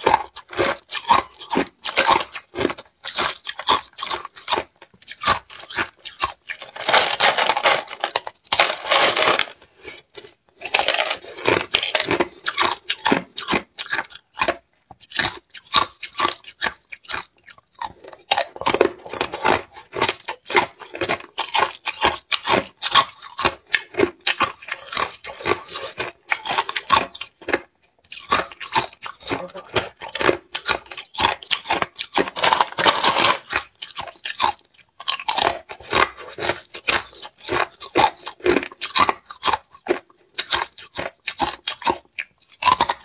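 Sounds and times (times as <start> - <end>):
chewing and crunching ice: 0.0 - 43.0.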